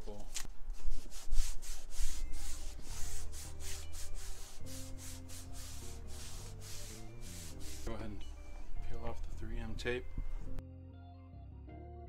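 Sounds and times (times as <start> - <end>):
pad swishing on plastic: 0.3 - 10.6.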